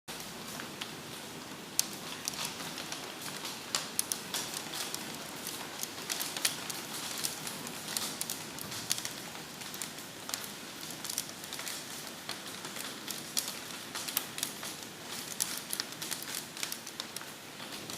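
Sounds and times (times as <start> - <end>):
steady hiss of rain: 0.1 - 17.9
hailstones striking hard surfaces: 2.3 - 17.9.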